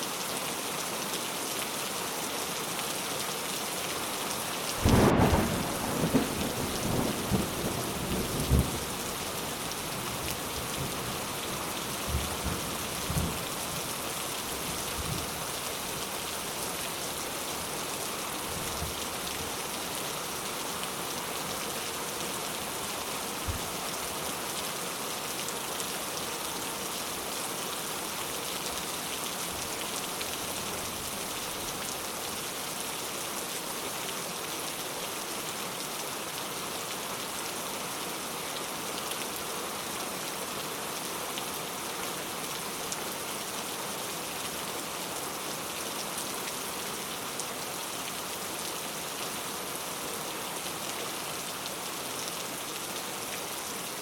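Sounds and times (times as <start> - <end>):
rain pattering on a surface: 0.1 - 54.0.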